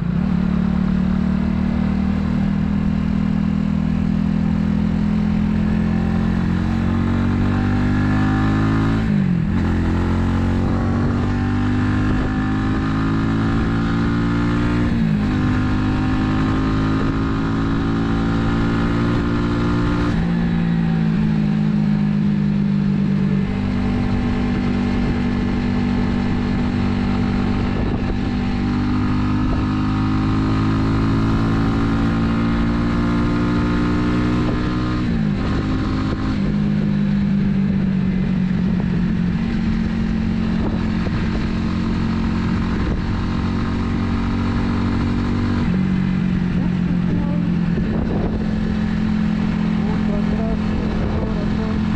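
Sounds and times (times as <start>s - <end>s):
motorcycle engine shifting gears: 0.0s - 51.9s.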